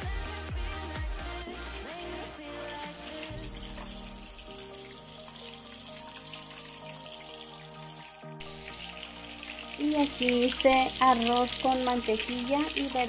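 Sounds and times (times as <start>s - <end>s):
background music: 0.0s - 13.0s
shrimp frying in hot oil: 2.3s - 13.0s.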